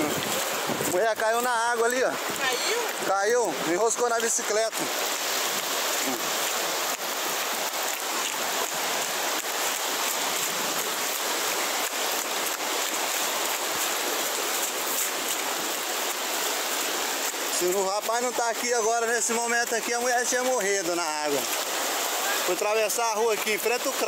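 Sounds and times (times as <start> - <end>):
floodwater rushing: 0.0 - 24.0
heavy rain falling: 0.0 - 24.0.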